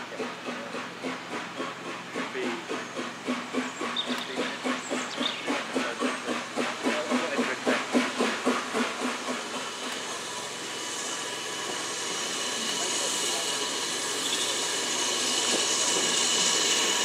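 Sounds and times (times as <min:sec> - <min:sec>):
steady steam hiss: 0:00.0 - 0:17.0
steam locomotive exhaust beats: 0:00.0 - 0:17.0.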